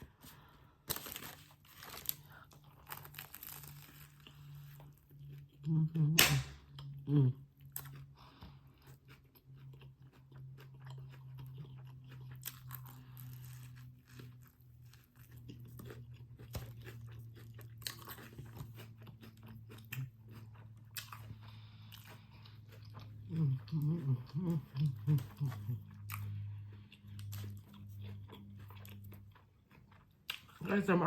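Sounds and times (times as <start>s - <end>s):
person chewing crunchy food: 0.0s - 30.7s.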